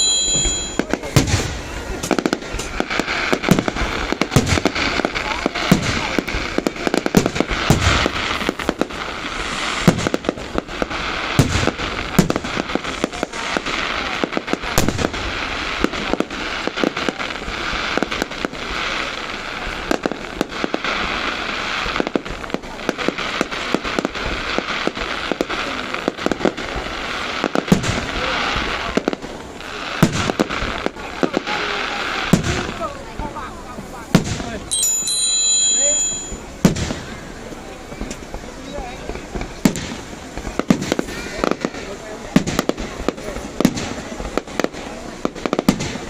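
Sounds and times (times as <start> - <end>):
fireworks crackling and banging: 0.0 - 46.0.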